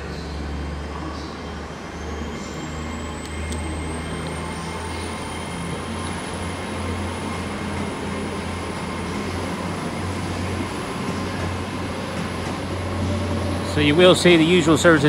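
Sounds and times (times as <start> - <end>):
train diesel engine drone: 0.0 - 15.0.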